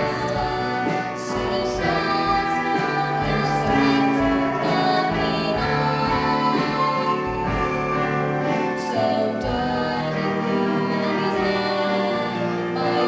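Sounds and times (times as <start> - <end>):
instrumental accompaniment: 0.0 - 13.0
vocal trio singing: 0.0 - 13.0.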